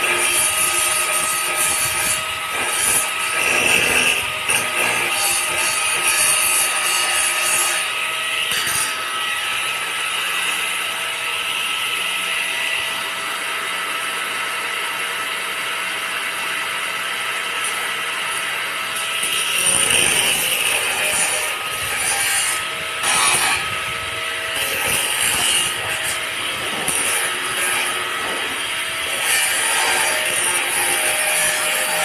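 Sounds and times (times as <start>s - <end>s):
power tool motor whine: 0.0s - 32.0s.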